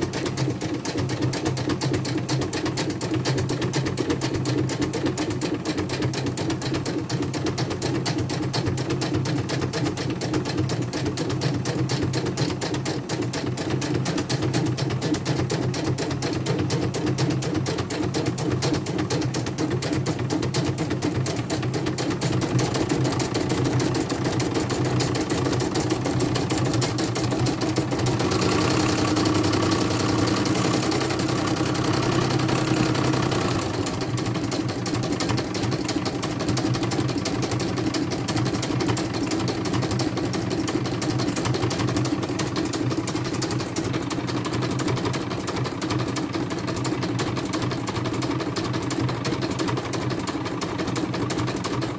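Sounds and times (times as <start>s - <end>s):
embroidery machine stitching: 0.0s - 51.9s.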